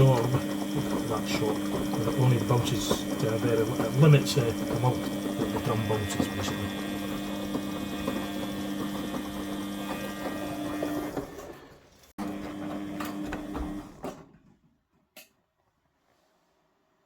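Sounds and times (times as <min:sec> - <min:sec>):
washing machine running: 0:00.0 - 0:14.3.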